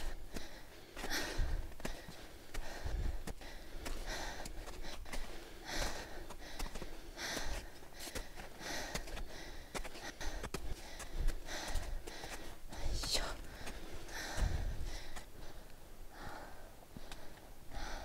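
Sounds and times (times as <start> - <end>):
person breathing hard: 0.0 - 18.0.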